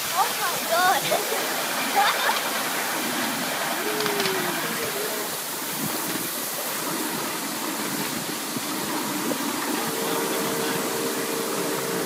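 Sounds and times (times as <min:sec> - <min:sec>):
miniature steam train running: 0:00.0 - 0:12.0.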